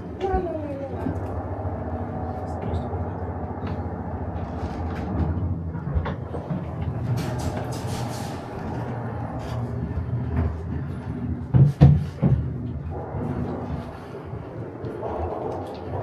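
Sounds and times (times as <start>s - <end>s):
low indoor hum: 0.0s - 16.0s.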